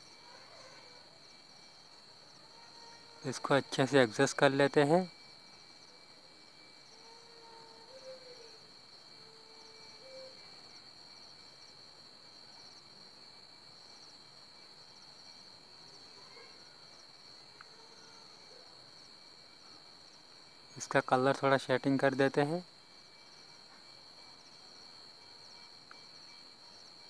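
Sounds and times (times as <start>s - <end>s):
insect chirring: 0.0s - 27.0s.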